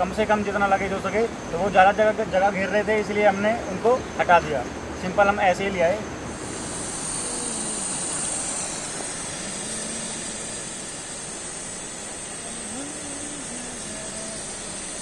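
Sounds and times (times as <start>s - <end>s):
camping stove burner hissing: 0.0s - 15.0s
thin high hiss: 0.0s - 15.0s.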